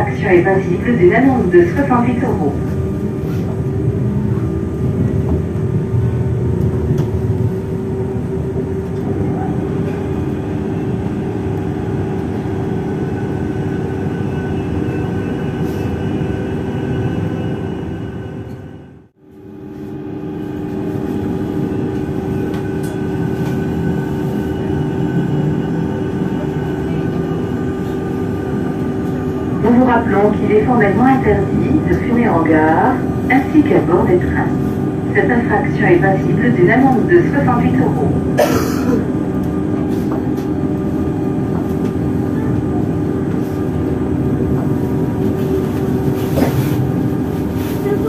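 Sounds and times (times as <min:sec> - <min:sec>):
train electrical hum: 0:00.0 - 0:48.0.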